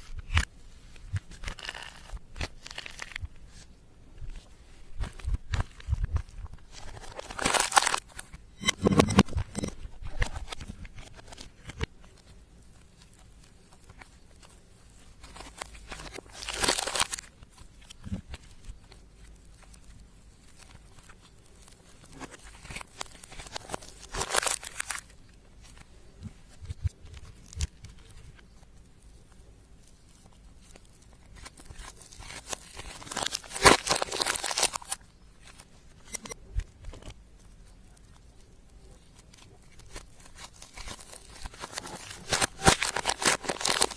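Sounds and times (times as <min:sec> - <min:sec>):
slime squished and stretched: 0:00.0 - 0:03.7, 0:04.3 - 0:28.6, 0:29.9 - 0:43.9.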